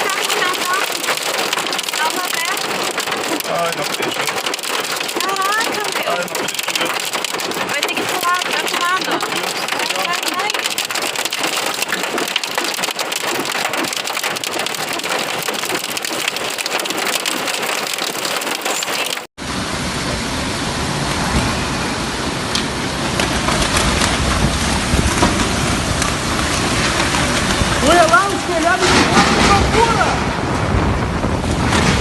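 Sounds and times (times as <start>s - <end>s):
heavy rain pelting: 0.0s - 21.7s, 22.8s - 32.0s
low storm rumble: 0.0s - 32.0s.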